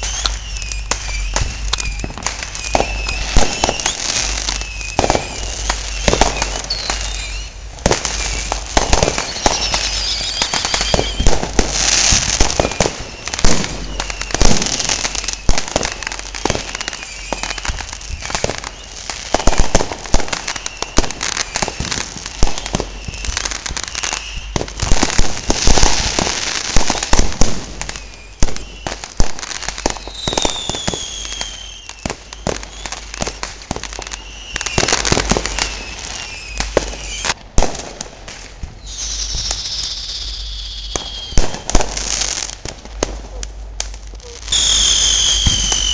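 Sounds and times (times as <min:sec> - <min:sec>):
shrill firework whistles: 0:00.0 - 0:37.4, 0:38.6 - 0:42.6, 0:44.2 - 0:45.9
firecracker crackle: 0:00.0 - 0:45.9.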